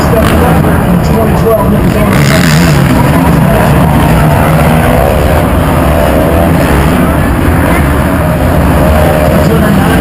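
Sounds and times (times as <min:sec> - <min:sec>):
low rumble: 0:00.0 - 0:10.0
motocross bike engines revving: 0:00.0 - 0:10.0.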